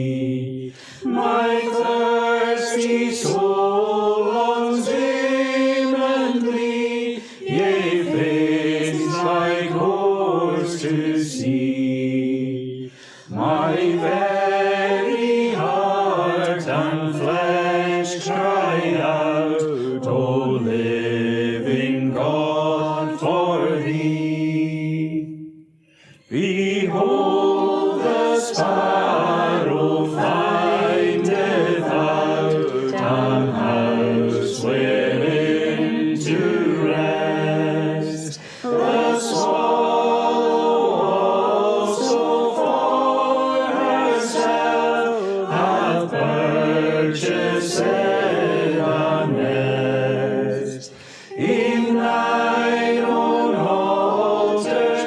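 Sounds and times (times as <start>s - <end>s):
congregation singing in unison: 0.0s - 55.0s.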